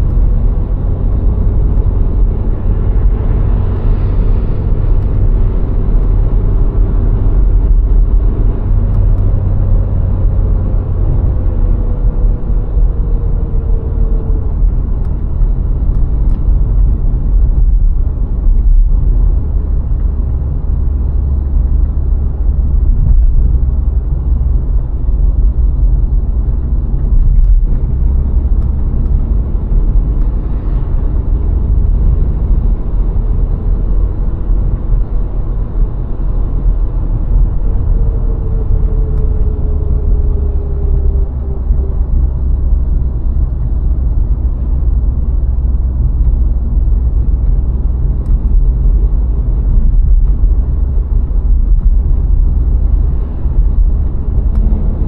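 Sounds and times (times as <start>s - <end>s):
car engine: 0.0s - 55.0s
tyre and wind rumble: 0.0s - 55.0s.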